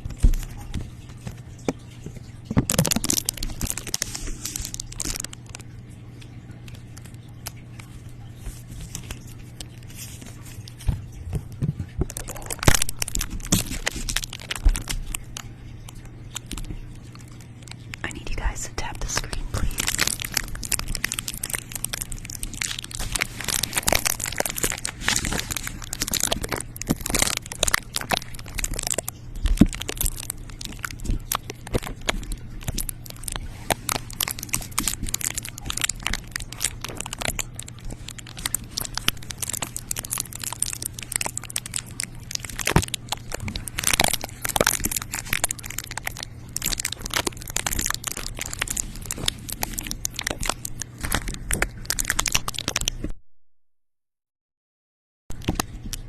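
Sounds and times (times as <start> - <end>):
crisp crunching and crackling: 0.0 - 53.2, 55.3 - 56.0
faint low hum: 0.0 - 53.2.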